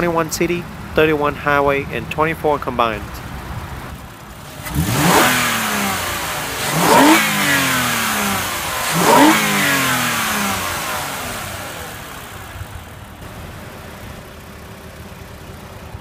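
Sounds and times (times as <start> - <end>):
car engine revving: 3.0 - 16.0.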